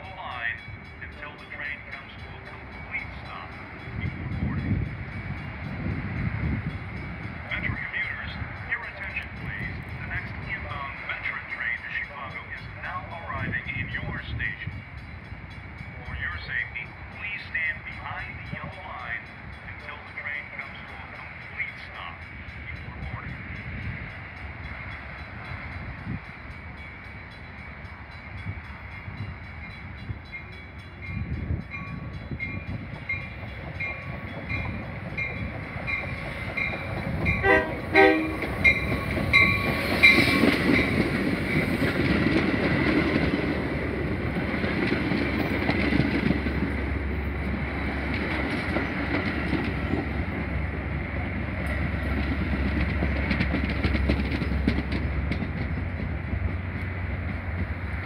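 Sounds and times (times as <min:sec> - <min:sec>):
train bell ringing: 0:00.0 - 0:57.1
train cars rumbling past: 0:00.0 - 0:58.0.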